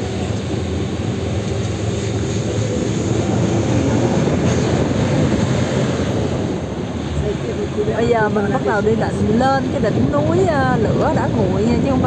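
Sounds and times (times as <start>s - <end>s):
bus engine and road noise: 0.0s - 12.0s
wind rushing through open door: 0.0s - 12.0s.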